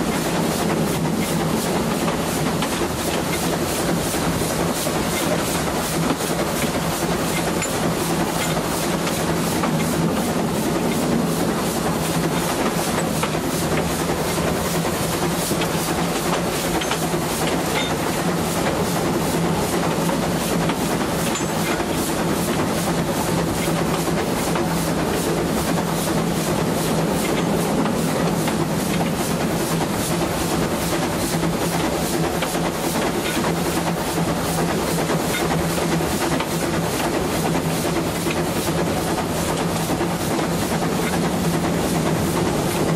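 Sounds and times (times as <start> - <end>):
steam train running on rails: 0.0 - 42.9.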